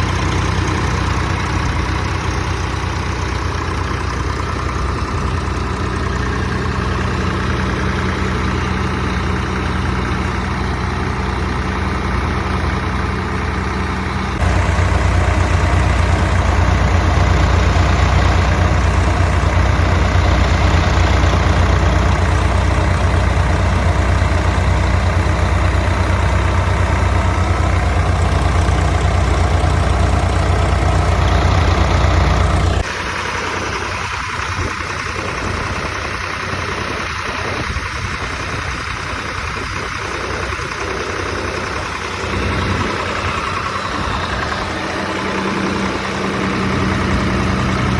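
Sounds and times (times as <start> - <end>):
tractor diesel engine idling: 0.0 - 47.9.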